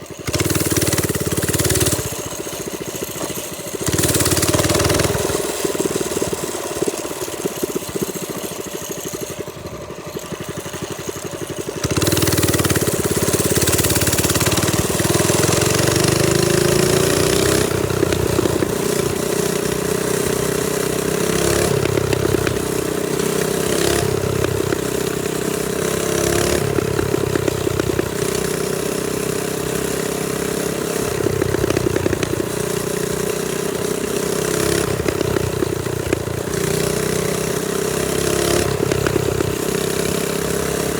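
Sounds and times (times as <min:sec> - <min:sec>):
minibike engine running: 0:00.0 - 0:40.9.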